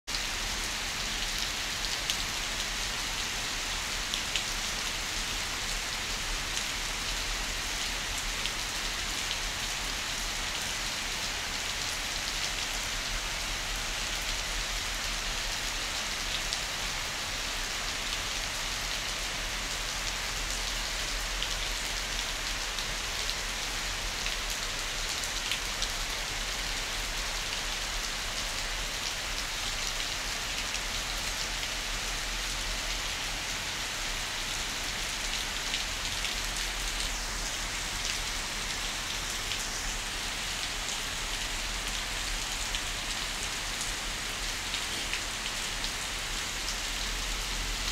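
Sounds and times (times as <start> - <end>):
heavy rain on trees: 0.1 - 47.9.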